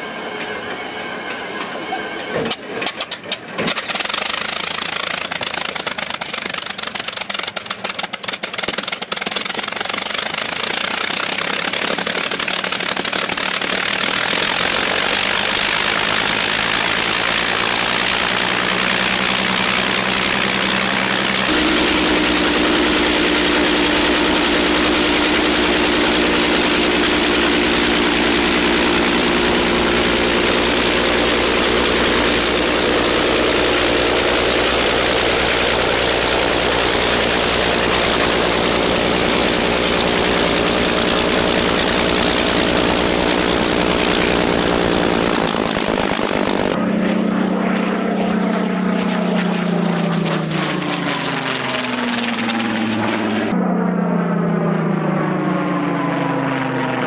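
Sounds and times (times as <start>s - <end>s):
aircraft engine starting and idling: 0.0s - 57.0s.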